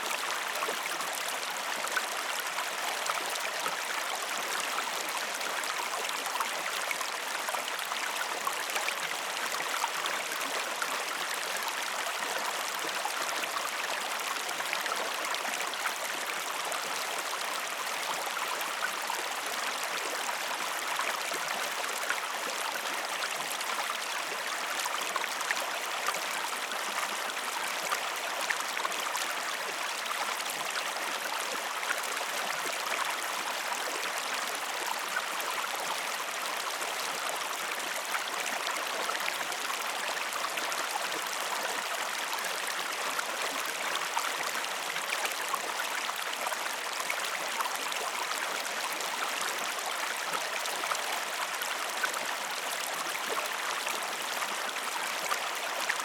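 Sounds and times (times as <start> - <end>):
water flowing steadily: 0.0 - 56.0.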